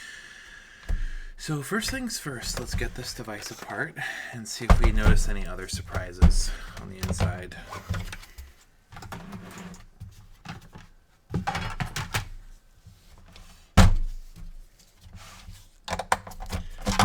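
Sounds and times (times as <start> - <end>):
console casing clicks and scraping: 1.8 - 3.8, 4.7 - 17.0.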